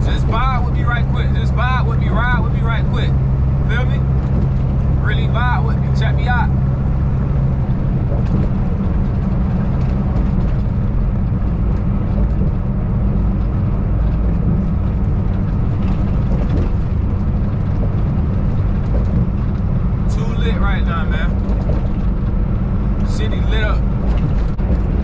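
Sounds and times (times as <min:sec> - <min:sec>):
road rumble: 0:00.0 - 0:25.0
truck engine drone: 0:00.0 - 0:25.0.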